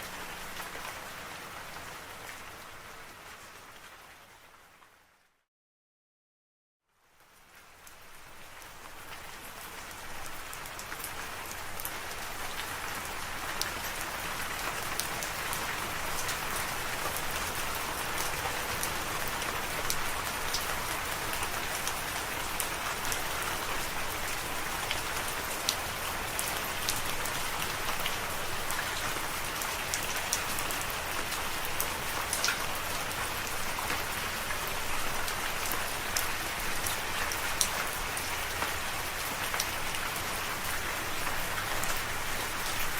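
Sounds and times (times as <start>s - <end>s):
steady rainfall: 0.0s - 5.3s, 7.0s - 42.9s.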